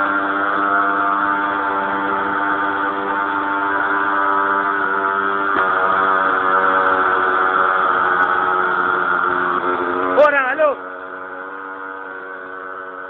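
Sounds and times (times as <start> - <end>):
motorised sprayer buzzing drone: 0.0 - 13.0.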